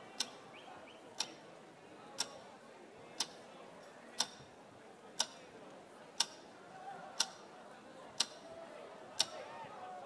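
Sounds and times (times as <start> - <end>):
low background noise: 0.0 - 10.0.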